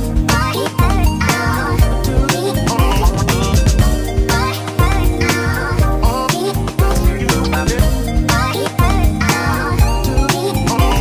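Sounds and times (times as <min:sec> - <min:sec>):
dance music beat: 0:00.0 - 0:11.0.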